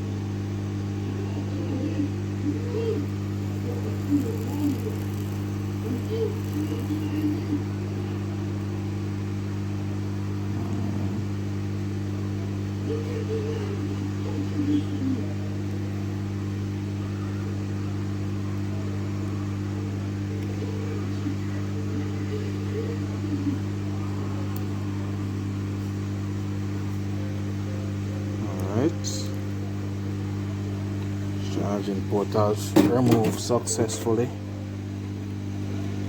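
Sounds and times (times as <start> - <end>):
hot-air station blowing: 0.0 - 20.4, 21.0 - 36.0.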